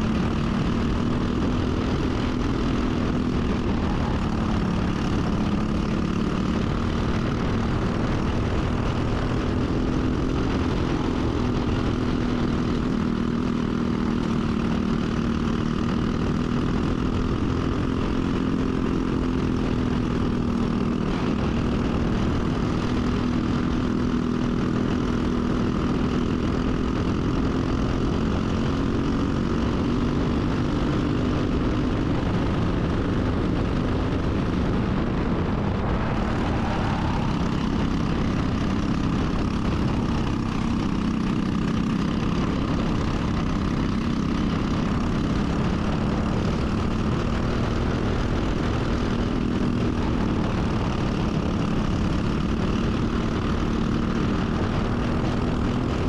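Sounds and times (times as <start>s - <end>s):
kart engine running: 0.0s - 56.0s
wind and tyre rush: 0.0s - 56.0s.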